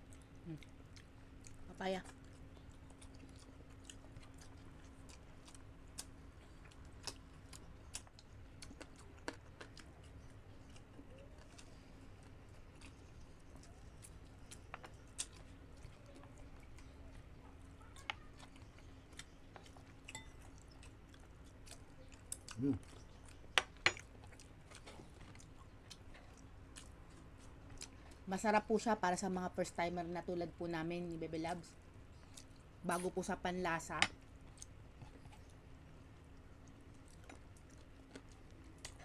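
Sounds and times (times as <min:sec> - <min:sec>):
people chewing: 0:00.0 - 0:29.5, 0:31.9 - 0:33.4, 0:34.2 - 0:39.0
faint steady hum: 0:00.0 - 0:39.0.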